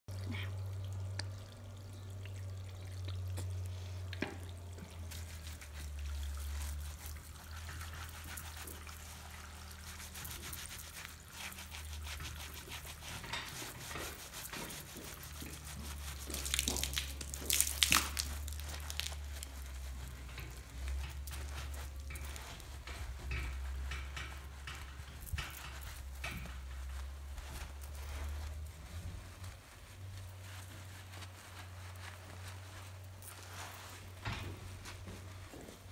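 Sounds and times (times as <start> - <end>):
water dripping: 0.1 - 31.2, 32.6 - 34.2
wet squelching of lathered hair: 0.1 - 35.9.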